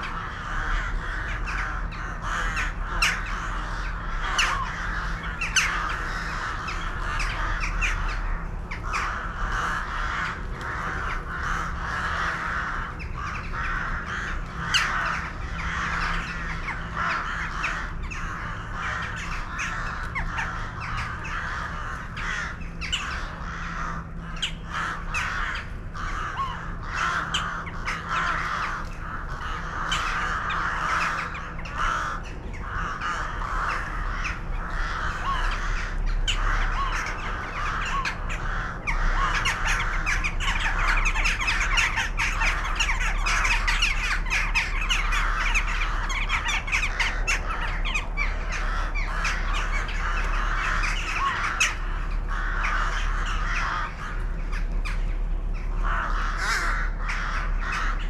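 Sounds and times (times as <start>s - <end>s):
flock of birds calling: 0.0s - 58.0s.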